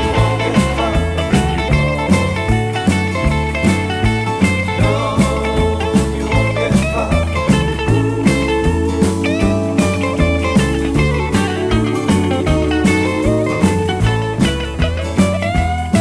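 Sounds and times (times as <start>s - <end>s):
bass guitar: 0.0s - 16.0s
slide guitar: 0.0s - 16.0s
steady drum beat: 0.0s - 16.0s.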